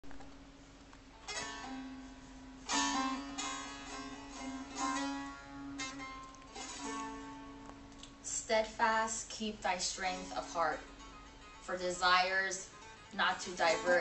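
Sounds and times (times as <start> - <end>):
plucked string instrument notes: 1.1 - 14.0.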